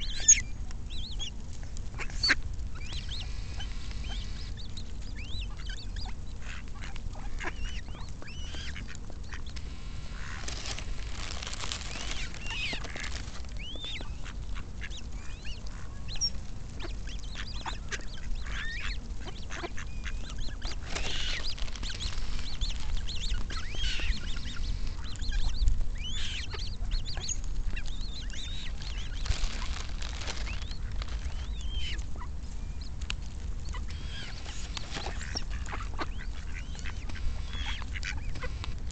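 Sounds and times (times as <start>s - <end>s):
coots calling: 0.0s - 33.0s, 33.6s - 38.8s
ducks quacking: 1.9s - 32.4s, 33.6s - 38.8s.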